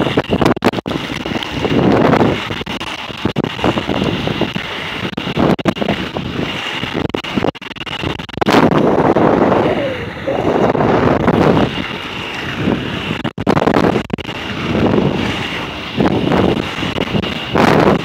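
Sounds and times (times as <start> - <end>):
skate wheels rolling on pavement: 0.0 - 18.0
wind rushing over microphone: 0.0 - 18.0.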